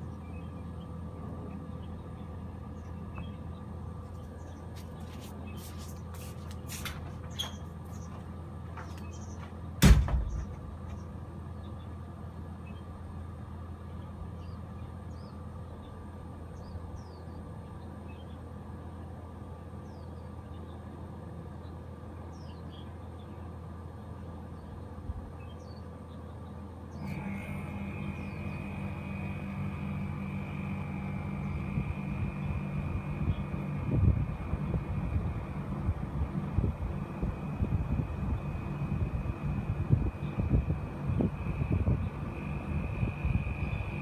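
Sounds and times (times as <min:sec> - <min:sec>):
air conditioner unit humming: 0:00.0 - 0:44.0.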